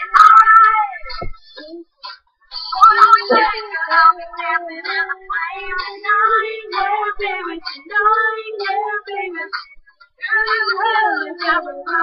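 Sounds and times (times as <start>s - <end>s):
girls singing a pop melody: 0.0s - 12.0s.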